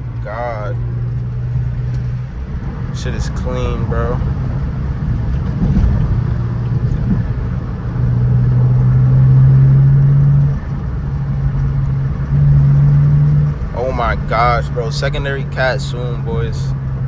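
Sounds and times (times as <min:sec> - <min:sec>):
car engine and exhaust drone: 0:00.0 - 0:17.0.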